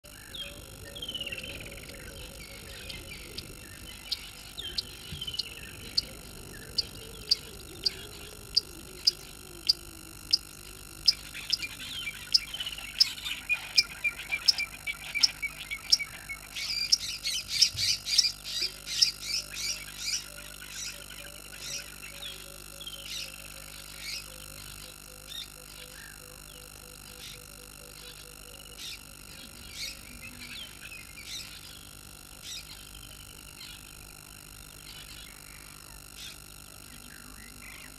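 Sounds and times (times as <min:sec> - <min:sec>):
faint steady chirring: 0:00.0 - 0:37.9
frogs clicking: 0:00.0 - 0:37.9.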